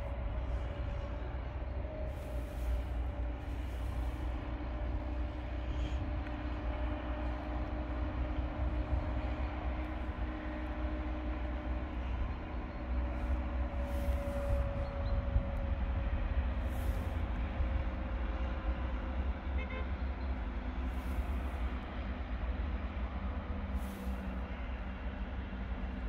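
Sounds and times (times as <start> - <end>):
distant excavator engine rumble: 0.0 - 26.0.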